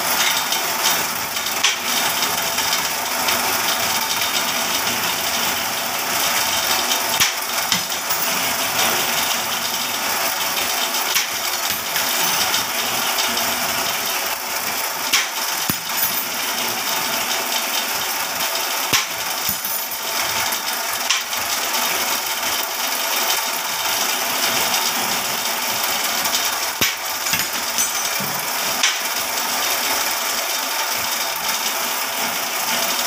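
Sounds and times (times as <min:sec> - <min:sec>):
wire-bending machine whirring: 0:00.0 - 0:22.2, 0:23.4 - 0:31.2.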